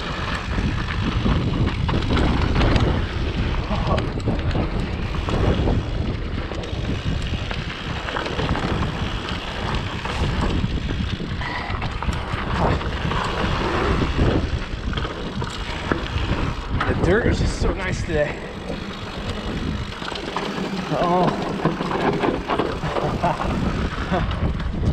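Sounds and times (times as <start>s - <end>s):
bike clicks and rattles: 0.0s - 24.9s
bike tyres rolling on dirt: 0.0s - 24.9s
wind buffeting microphone: 0.0s - 24.9s.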